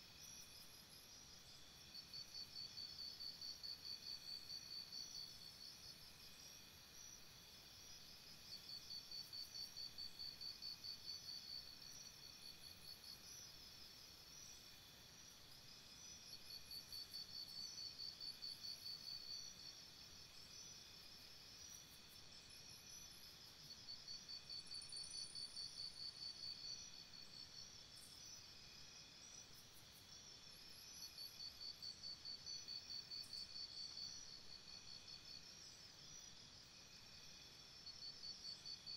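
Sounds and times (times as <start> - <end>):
crickets chirping: 0.0 - 38.9
higher insect chirps: 0.2 - 38.9.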